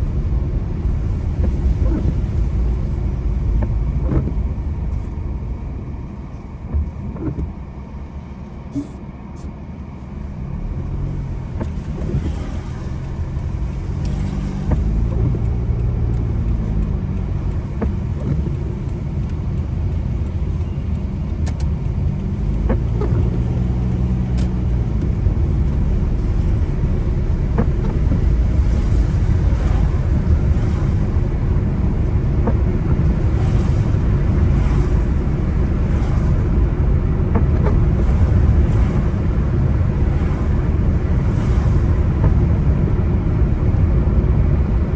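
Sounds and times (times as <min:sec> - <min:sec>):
car driving on wet road: 0:00.0 - 0:44.9.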